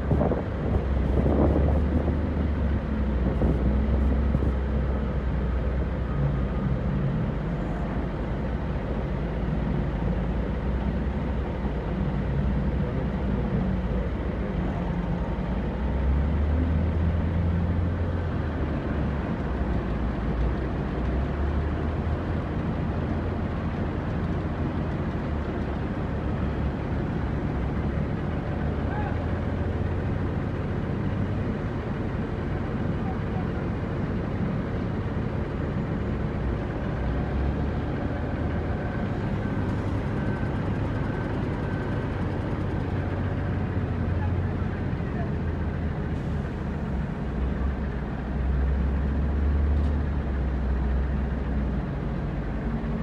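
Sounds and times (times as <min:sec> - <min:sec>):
heavy diesel engines rumbling: 0:00.0 - 0:53.0.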